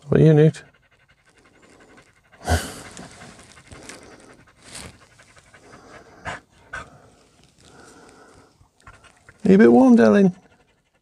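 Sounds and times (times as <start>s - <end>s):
dogs panting fast: 0.0s - 11.0s.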